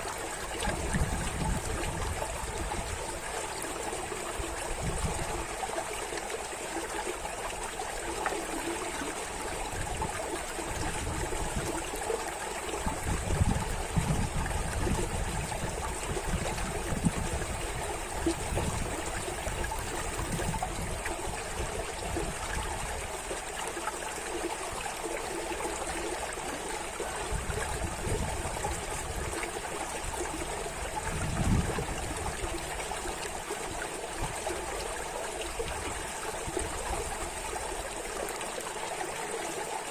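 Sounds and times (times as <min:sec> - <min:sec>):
stream of water trickling: 0:00.0 - 0:39.9.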